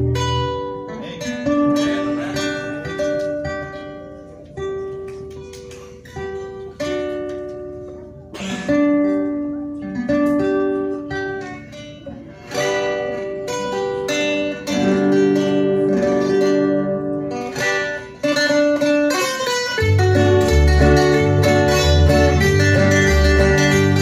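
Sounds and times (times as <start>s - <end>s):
acoustic guitars playing hymn: 0.0s - 24.0s.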